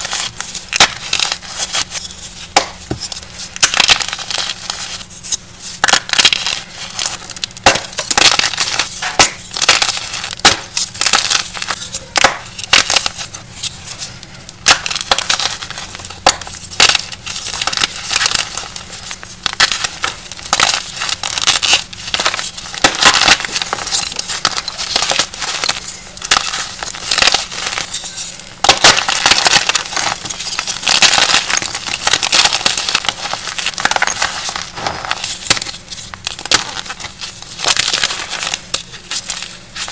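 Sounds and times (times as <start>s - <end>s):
chalk crushed between hands: 0.0s - 39.9s.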